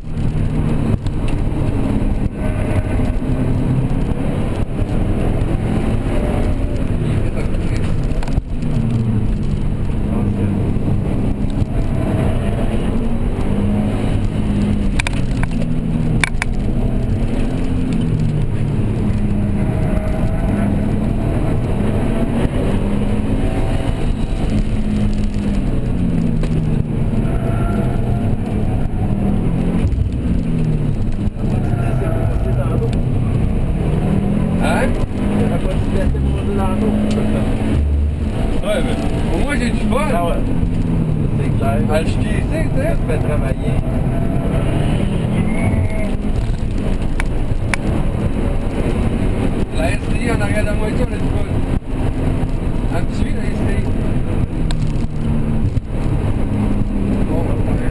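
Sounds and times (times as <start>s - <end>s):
car engine revving through gears: 0.0s - 57.9s
road and wind noise: 0.0s - 57.9s.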